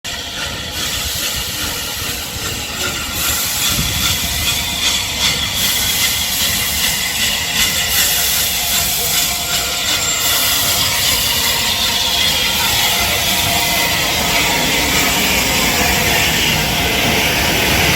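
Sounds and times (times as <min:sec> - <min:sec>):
steam locomotive hissing: 0:00.1 - 0:17.9.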